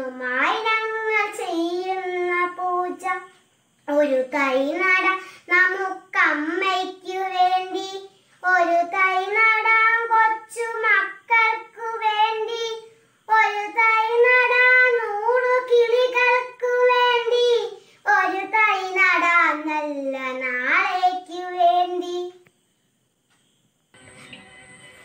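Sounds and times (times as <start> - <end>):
girl singing unaccompanied: 0.0 - 22.6.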